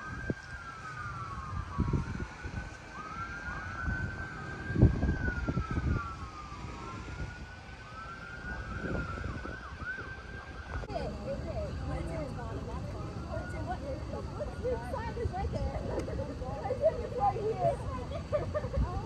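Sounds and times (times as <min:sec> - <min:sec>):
emergency sirens wailing: 0:00.0 - 0:19.0.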